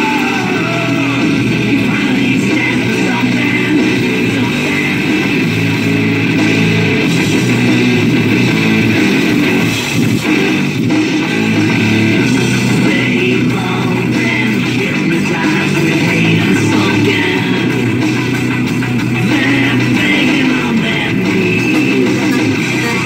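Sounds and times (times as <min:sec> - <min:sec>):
hard rock music on radio: 0:00.0 - 0:23.0.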